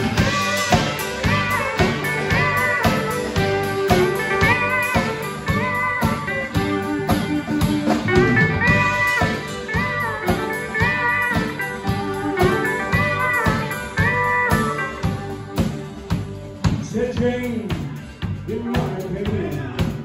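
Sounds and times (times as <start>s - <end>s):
pedal steel guitar chords: 0.0s - 18.7s
drum kit beat: 0.0s - 20.0s
electric guitar: 0.0s - 20.0s.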